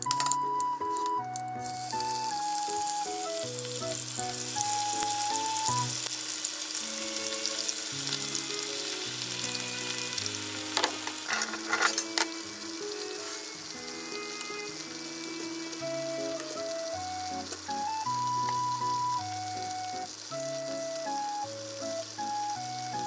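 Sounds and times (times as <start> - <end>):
chicken sizzling in frying pan: 0.0 - 23.0
soft background music: 0.0 - 23.0.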